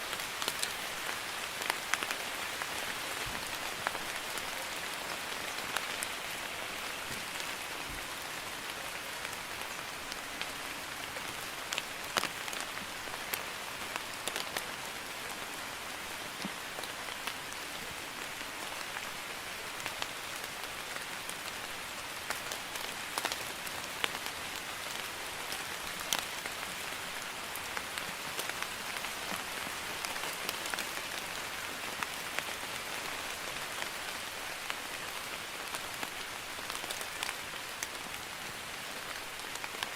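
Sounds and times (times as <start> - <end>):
steady drizzle hiss: 0.0 - 39.9
raindrops ticking on a surface: 0.1 - 39.9.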